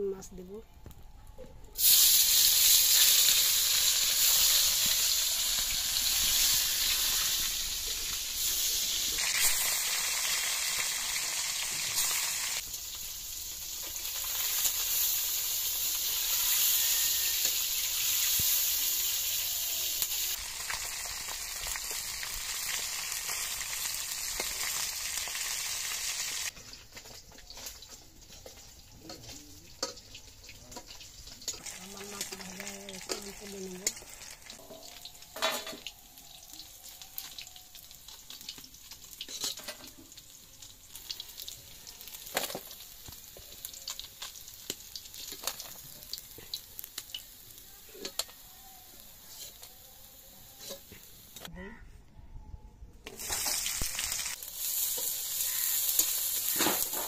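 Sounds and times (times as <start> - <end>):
fish sizzling in hot oil: 1.8 - 51.4, 53.1 - 57.0.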